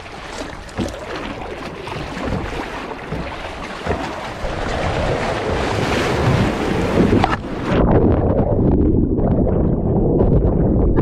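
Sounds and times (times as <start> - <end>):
sea water sloshing and splashing: 0.0 - 10.5
wind buffeting microphone: 0.0 - 11.0.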